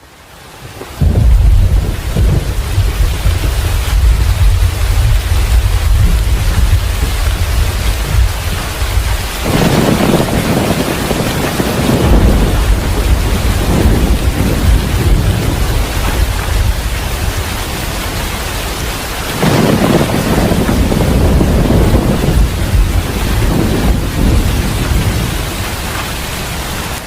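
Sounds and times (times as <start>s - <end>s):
heavy rain falling: 0.0s - 27.0s
rolling thunder: 1.0s - 26.7s.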